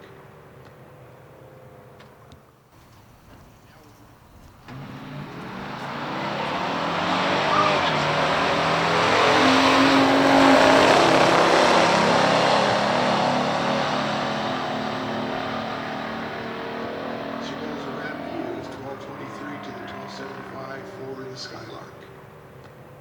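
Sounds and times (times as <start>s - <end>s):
cars accelerating hard: 2.8s - 23.0s.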